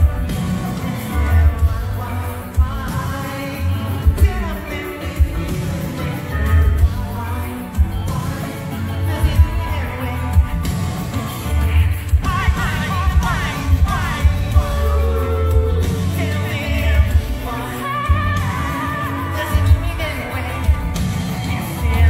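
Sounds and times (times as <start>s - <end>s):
heavy steady bass: 0.0s - 22.0s
live band playing: 0.0s - 22.0s
man singing: 0.0s - 22.0s.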